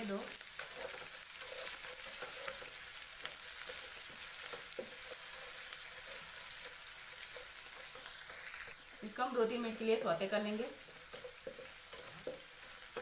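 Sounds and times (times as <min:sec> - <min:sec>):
hot oil sizzling: 0:00.0 - 0:13.0
spatula scraping pan: 0:00.3 - 0:08.8, 0:09.4 - 0:13.0.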